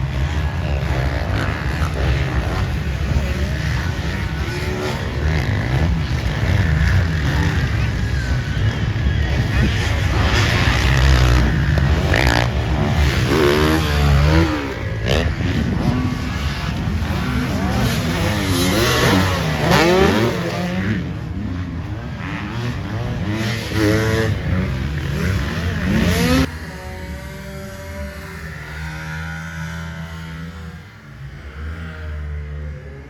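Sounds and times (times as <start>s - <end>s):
dirt bike engines racing past: 0.0s - 33.0s.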